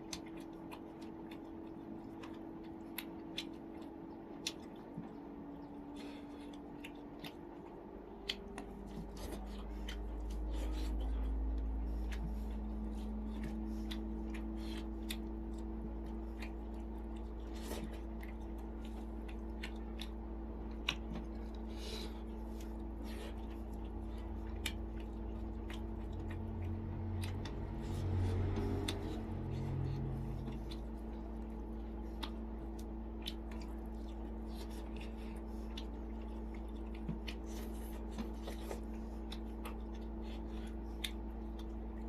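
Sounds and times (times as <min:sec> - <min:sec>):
mouth chewing wet smacks: 0:00.0 - 0:42.0
steady low hum: 0:00.0 - 0:42.0.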